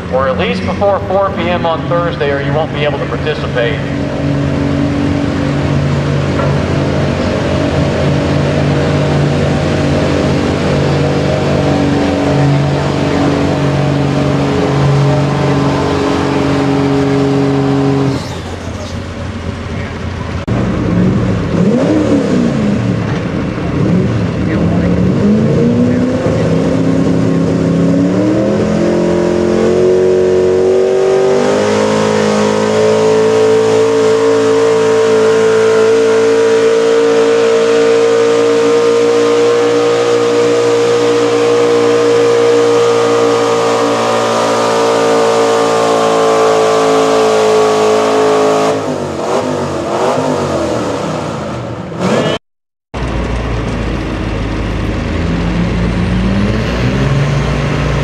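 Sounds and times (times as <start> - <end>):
truck engine revving under load: 0.0 - 52.4, 53.0 - 58.0.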